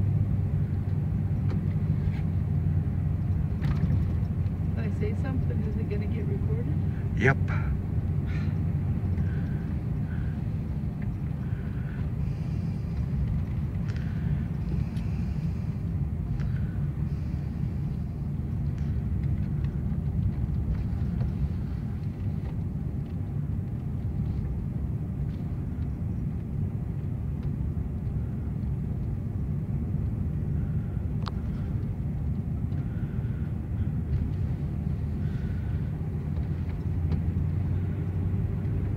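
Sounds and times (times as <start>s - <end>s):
vehicle engine and tyre noise: 0.0s - 38.9s.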